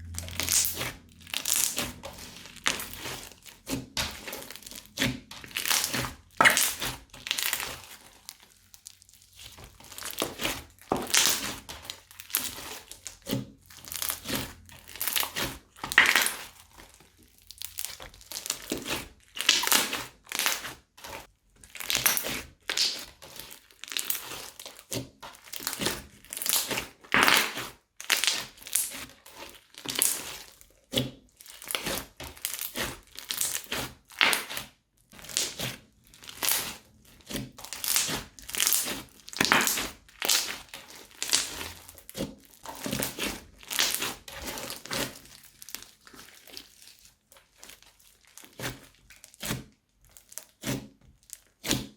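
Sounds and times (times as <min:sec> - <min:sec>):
crunchy slime crackling and popping: 0:00.0 - 0:51.9.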